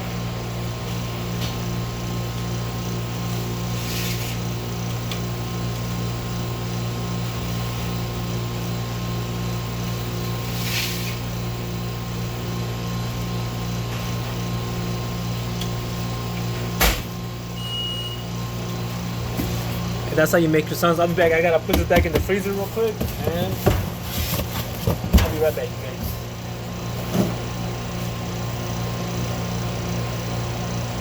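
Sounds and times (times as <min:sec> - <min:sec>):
kitchen machinery hum: 0:00.0 - 0:31.0.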